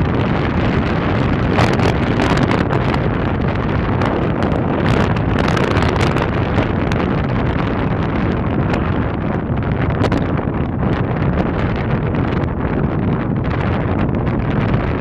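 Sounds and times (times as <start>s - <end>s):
road and engine noise: 0.0s - 15.0s
wind buffeting microphone: 0.0s - 15.0s.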